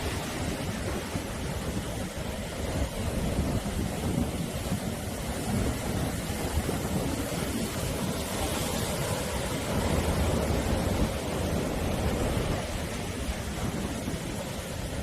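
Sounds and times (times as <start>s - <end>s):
deep rumble of surf: 0.0s - 15.0s
sea waves washing on shore: 0.0s - 15.0s.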